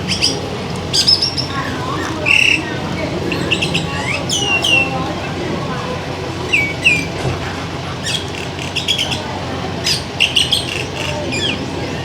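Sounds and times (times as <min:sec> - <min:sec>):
downward-sliding bird calls: 0:00.0 - 0:12.0
small birds chirping: 0:00.0 - 0:12.0.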